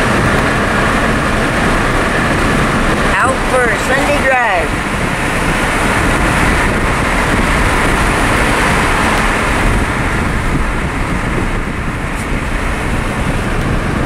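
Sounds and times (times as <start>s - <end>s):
road and wind noise inside car: 0.0s - 14.0s.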